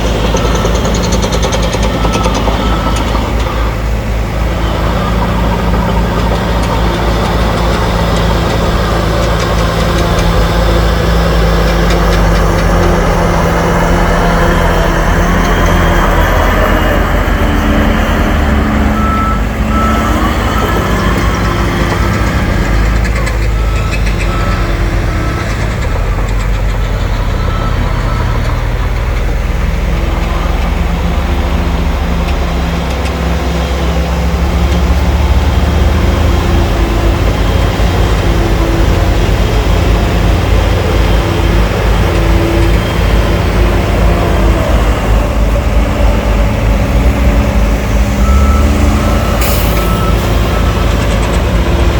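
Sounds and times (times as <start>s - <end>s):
heavy diesel machinery running: 0.0s - 51.9s
reversing alarm beeping: 0.0s - 51.9s.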